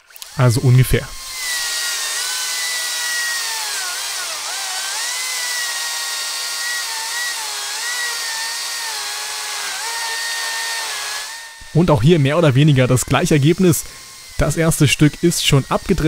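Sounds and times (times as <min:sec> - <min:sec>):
electric chainsaw cutting log: 0:00.0 - 0:16.0.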